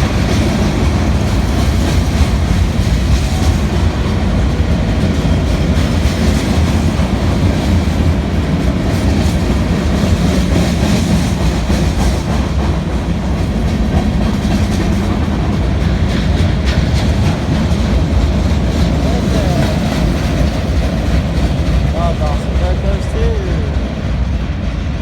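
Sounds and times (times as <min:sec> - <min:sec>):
clacks over rail joints: 0:00.0 - 0:25.0
train wheels rumbling on rails: 0:00.0 - 0:25.0.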